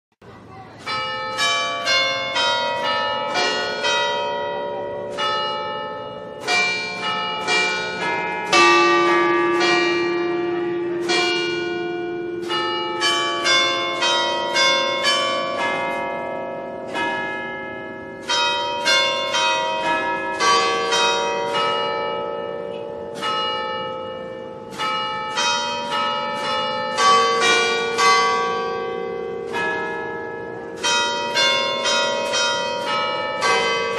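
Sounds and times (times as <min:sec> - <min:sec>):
church bells ringing: 0:00.3 - 0:33.9.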